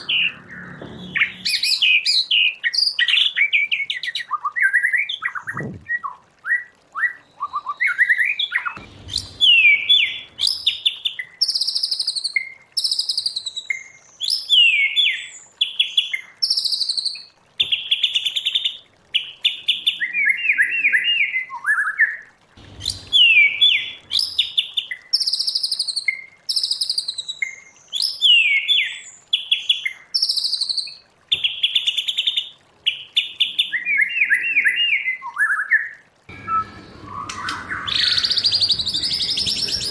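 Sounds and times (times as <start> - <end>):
bird singing whistles and trills: 0.0 - 18.1, 19.2 - 22.2, 22.8 - 31.8, 33.2 - 39.9.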